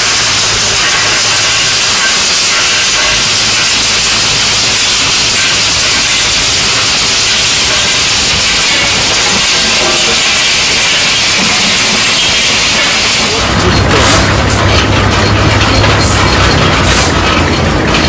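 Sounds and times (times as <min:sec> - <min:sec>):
stone crusher running: 0:00.0 - 0:18.0.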